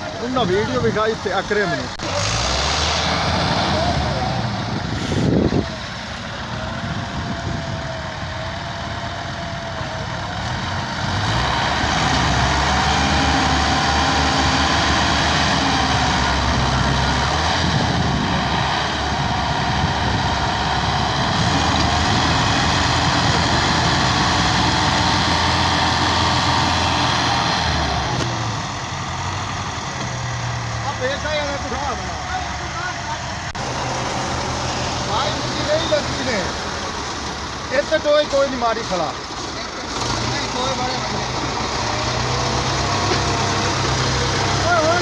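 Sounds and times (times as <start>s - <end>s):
tractor engine straining: 0.0s - 45.0s.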